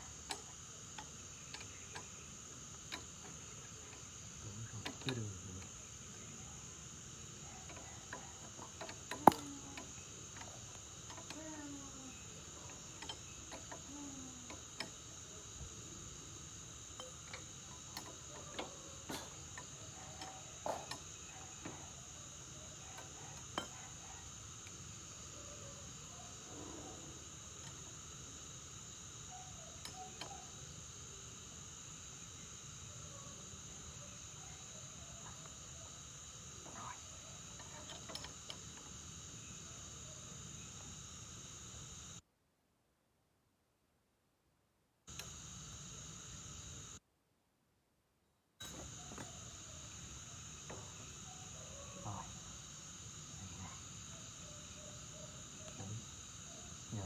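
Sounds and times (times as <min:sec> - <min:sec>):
crickets chirring: 0:00.0 - 0:42.2, 0:45.1 - 0:47.0, 0:48.6 - 0:57.0.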